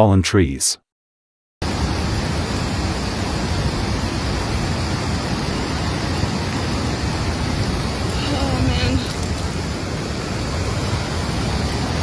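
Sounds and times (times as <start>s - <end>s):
rain: 1.6s - 12.0s
rushing flood water: 1.6s - 12.0s.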